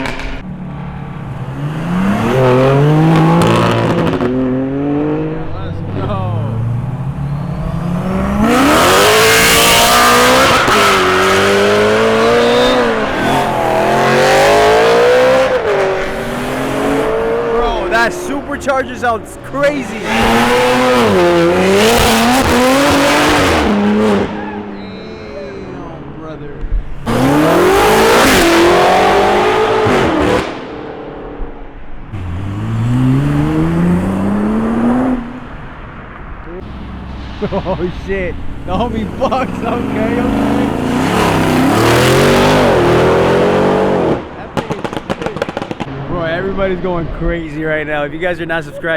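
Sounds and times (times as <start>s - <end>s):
car engine accelerating hard: 0.0s - 47.1s.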